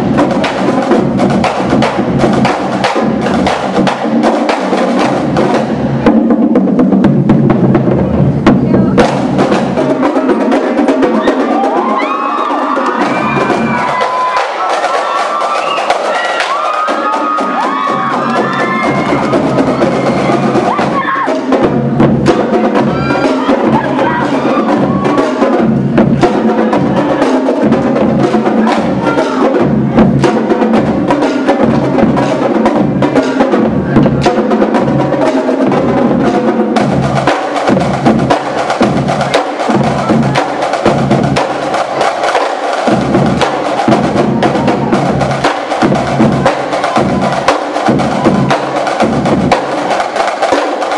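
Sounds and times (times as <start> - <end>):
bass drum notes: 0.0 - 11.8, 17.4 - 50.9
snare and tenor drums: 0.0 - 50.9.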